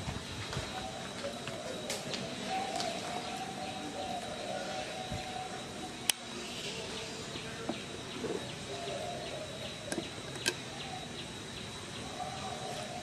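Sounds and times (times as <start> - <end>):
high insect whine: 0.0 - 13.0.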